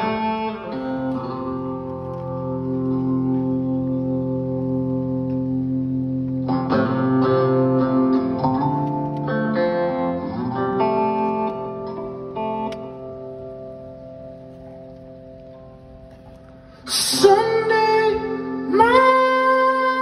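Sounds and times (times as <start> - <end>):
guitar chords: 0.0 - 20.0.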